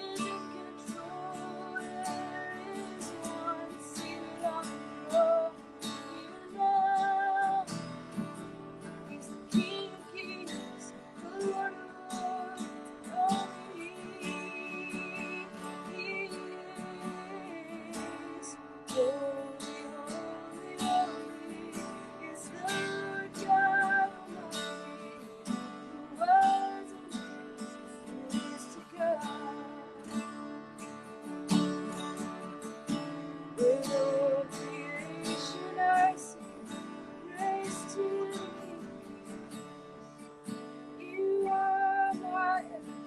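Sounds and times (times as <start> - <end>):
woman singing: 0.0 - 32.3, 33.0 - 43.0
acoustic guitar strumming: 0.0 - 43.0.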